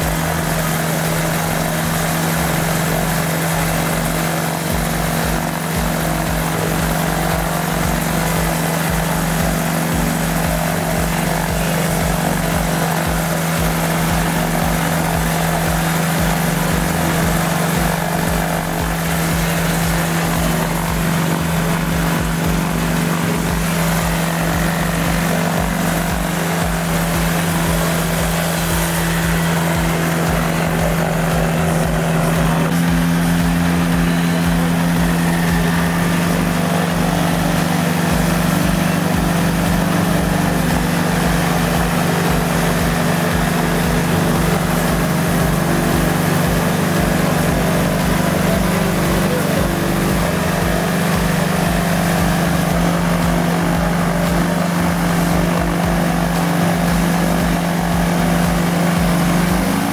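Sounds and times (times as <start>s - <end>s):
engine and propeller droning: 0.0s - 59.9s.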